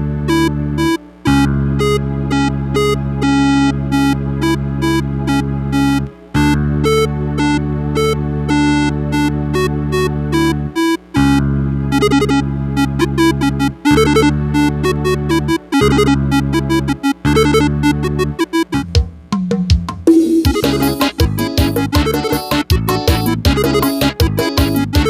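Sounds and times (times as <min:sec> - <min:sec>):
synthesizer keyboard melody: 0:00.0 - 0:19.2, 0:20.1 - 0:25.0.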